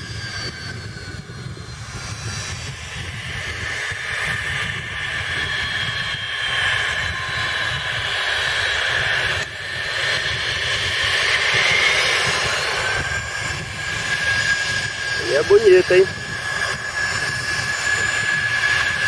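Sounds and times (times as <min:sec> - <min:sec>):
jet engines whining at taxi power: 0:00.0 - 0:19.0.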